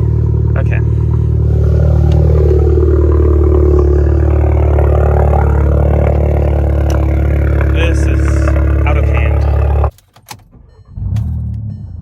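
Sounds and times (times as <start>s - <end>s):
loud unmuffled car engine idling: 0.0s - 10.0s.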